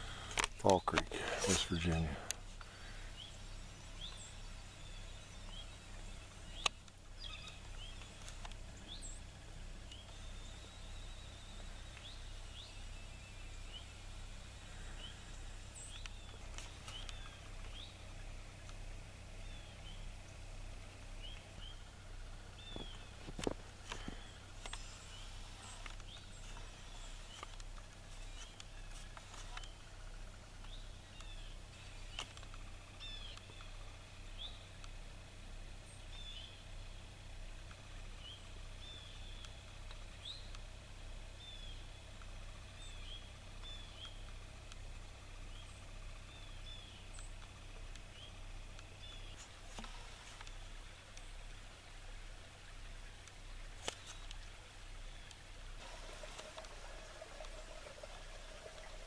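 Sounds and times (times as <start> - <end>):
faint low hum: 0.0 - 59.0
small birds chirping: 0.0 - 59.0.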